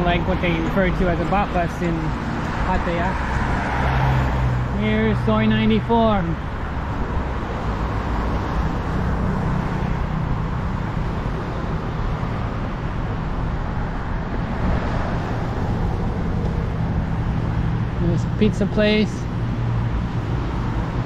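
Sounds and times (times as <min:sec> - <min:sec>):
passing road traffic: 0:00.0 - 0:21.0
vehicle engines humming: 0:00.0 - 0:21.0.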